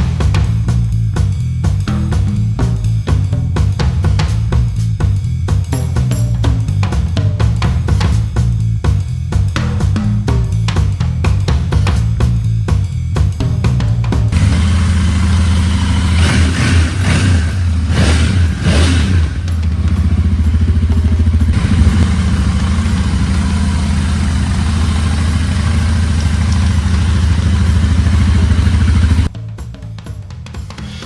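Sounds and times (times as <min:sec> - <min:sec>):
motorcycle engine revving and idling: 0:00.0 - 0:29.3.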